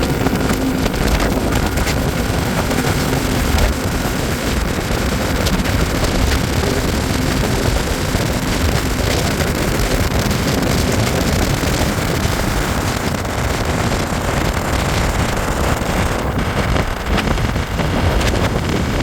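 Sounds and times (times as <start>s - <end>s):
vehicle road noise: 0.0s - 19.0s
wind buffeting microphone: 0.0s - 19.0s.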